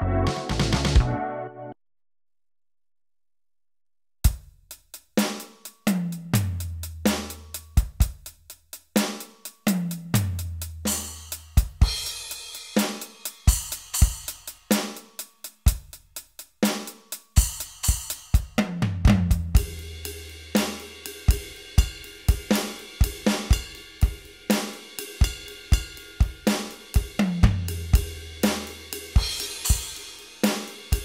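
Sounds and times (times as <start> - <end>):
snare cymbal and hi-hat hits: 4.3 - 31.0.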